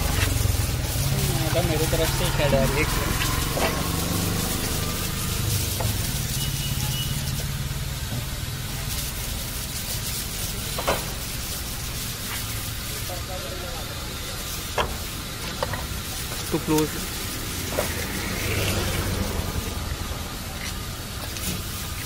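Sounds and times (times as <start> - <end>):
even hiss: 0.0 - 22.0
traffic hum: 0.0 - 22.0.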